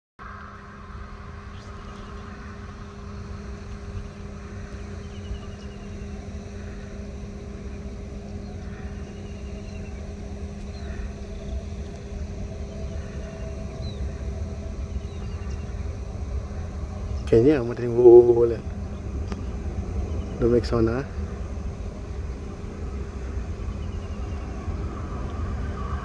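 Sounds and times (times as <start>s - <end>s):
distant jet engines rumbling: 0.2s - 26.0s.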